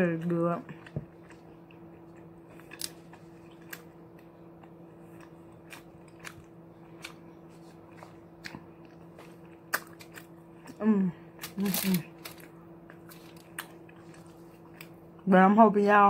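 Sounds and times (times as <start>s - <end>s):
chewing with wet smacks: 0.0s - 10.8s, 12.8s - 15.3s
steady low hum: 0.0s - 16.0s.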